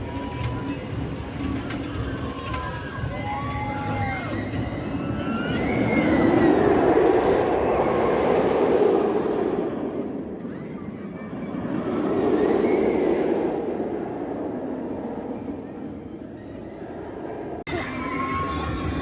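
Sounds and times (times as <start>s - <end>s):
roller coaster wheels roaring on track: 0.0s - 19.0s
rushing wind: 0.0s - 19.0s.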